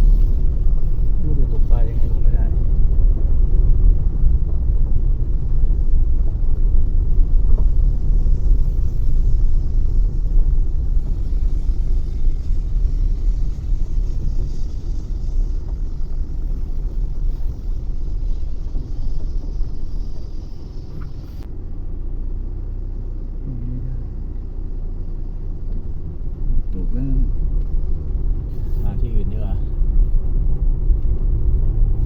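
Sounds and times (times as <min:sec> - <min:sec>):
vehicle driving rumble: 0:00.0 - 0:32.0.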